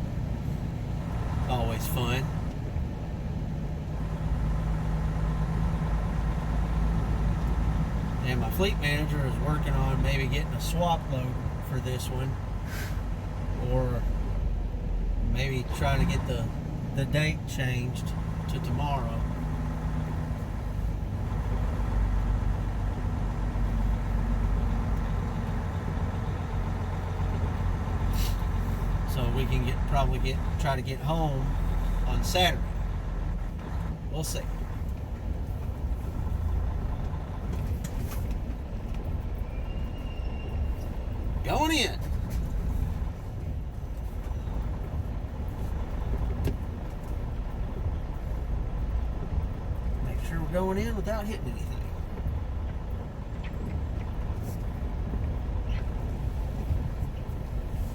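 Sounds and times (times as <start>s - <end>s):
truck diesel engine idling: 0.0s - 57.9s.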